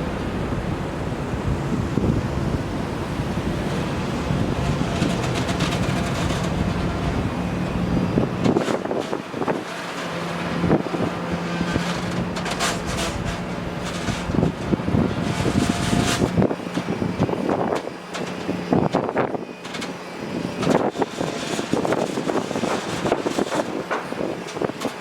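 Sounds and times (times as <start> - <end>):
engine hum: 0.0 - 25.0
wind buffeting microphone: 0.0 - 25.0.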